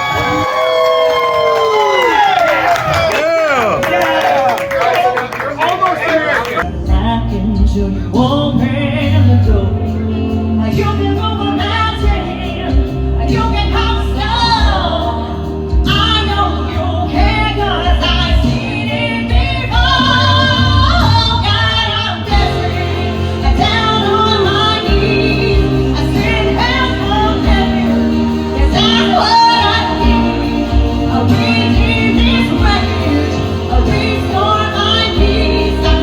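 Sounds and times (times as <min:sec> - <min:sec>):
loud backing track: 0:00.0 - 0:36.0
woman singing karaoke: 0:06.6 - 0:36.0.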